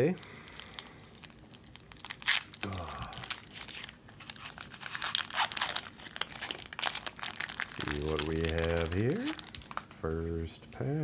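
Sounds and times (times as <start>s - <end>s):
wrapper crinkling: 0.0s - 10.0s
wrapper ripping: 0.4s - 9.9s.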